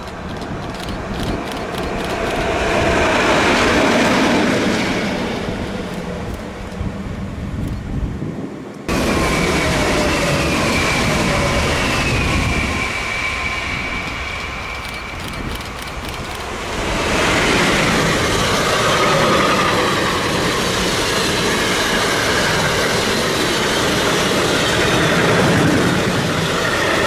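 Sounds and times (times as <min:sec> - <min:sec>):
electric locomotive passing: 0:00.0 - 0:27.0
passenger train passing close: 0:00.0 - 0:27.0.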